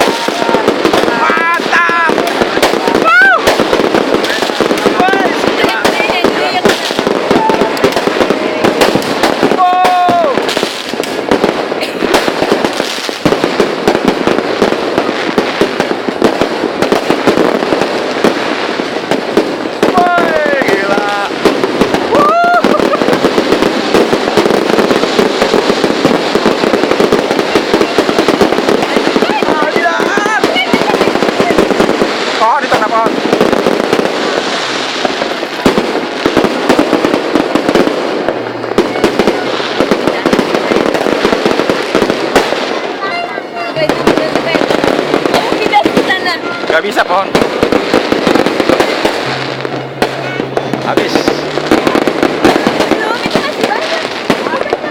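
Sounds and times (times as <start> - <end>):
fireworks and firecrackers banging: 0.0 - 54.9.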